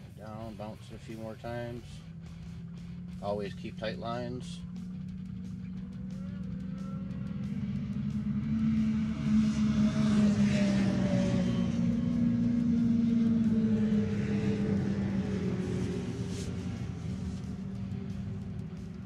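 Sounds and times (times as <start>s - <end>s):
snowmobile engine driving past: 1.8s - 19.0s.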